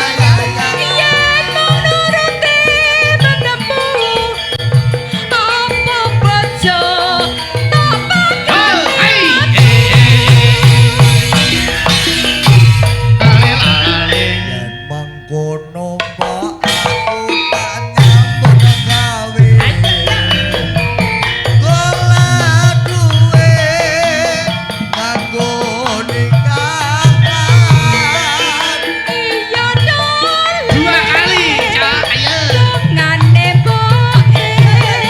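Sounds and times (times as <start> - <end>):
struck metallophone notes: 0.0 - 35.0
wavering melodic line: 0.0 - 35.0.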